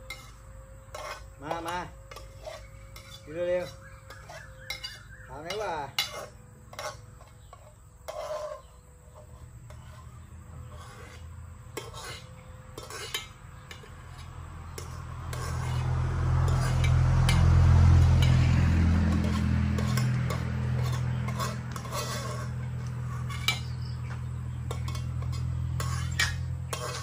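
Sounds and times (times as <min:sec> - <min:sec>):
metal clinks and scraping from pot: 0:00.0 - 0:27.0.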